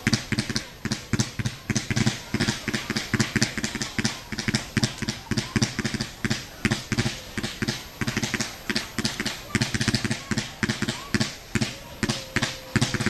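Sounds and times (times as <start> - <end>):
fireworks popping and cracking: 0.0 - 13.0.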